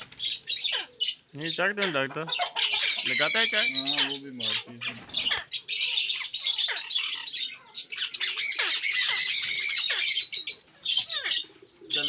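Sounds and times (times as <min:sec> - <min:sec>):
parakeet screeching: 0:00.3 - 0:12.0.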